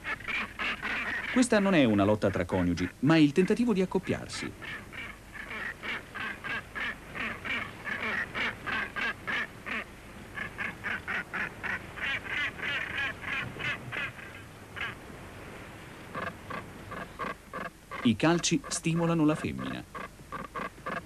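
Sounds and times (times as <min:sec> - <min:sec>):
gannets calling: 0:00.0 - 0:15.0, 0:16.1 - 0:21.0.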